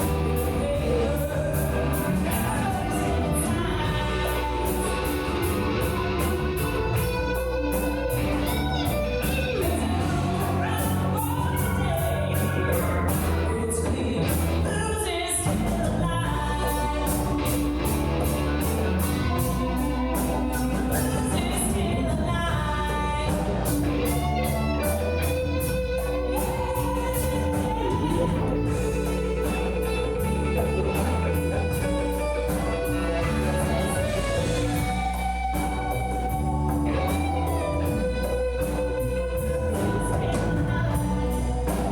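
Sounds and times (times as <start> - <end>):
bass guitar: 0.0 - 41.9
drums keeping a steady beat: 0.0 - 41.9
electric guitar: 0.0 - 41.9
person singing: 0.0 - 41.9.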